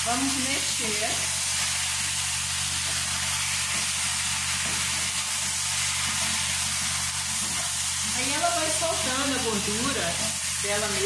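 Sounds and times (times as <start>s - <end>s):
ribs sizzling in oil: 0.0s - 11.0s.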